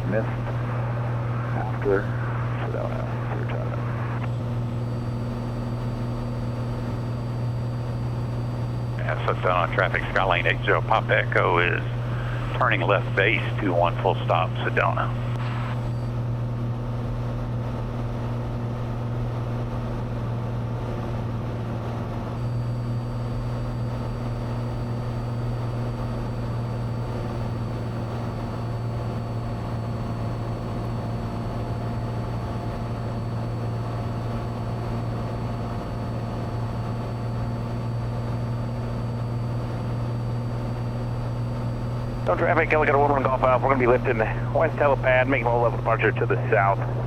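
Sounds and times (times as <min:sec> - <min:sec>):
faint high whine: 0:00.0 - 0:47.0
propeller plane engine droning: 0:00.0 - 0:47.0.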